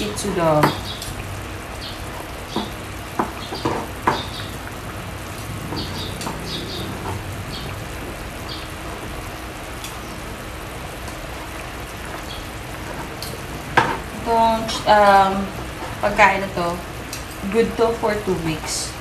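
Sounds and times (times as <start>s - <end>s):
pot boiling hiss: 0.0s - 19.0s.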